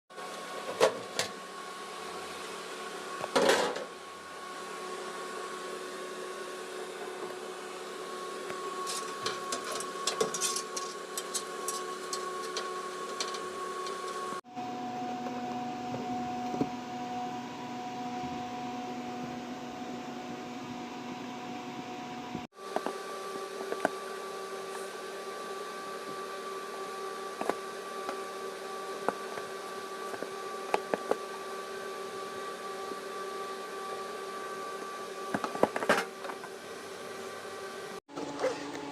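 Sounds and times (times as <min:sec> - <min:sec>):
steady mechanical hum: 0:00.2 - 0:38.9.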